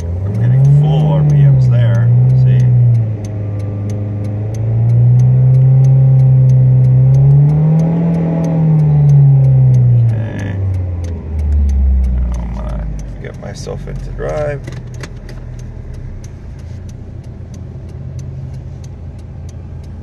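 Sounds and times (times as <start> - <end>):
car engine running fast: 0.0 - 20.0
turn signal ticking: 0.0 - 20.0.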